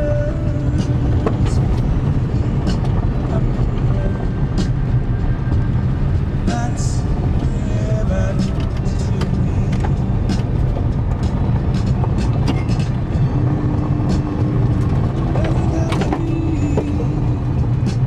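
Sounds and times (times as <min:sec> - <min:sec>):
car knocks and rattles: 0:00.0 - 0:07.6, 0:08.3 - 0:18.0
car engine and tyre rumble: 0:00.0 - 0:18.0.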